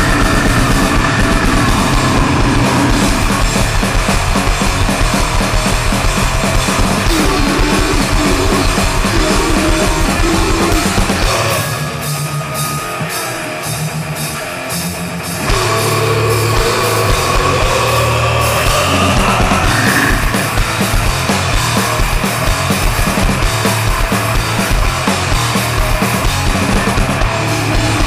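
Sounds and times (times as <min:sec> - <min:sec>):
loud grindcore band music: 0:00.0 - 0:28.0.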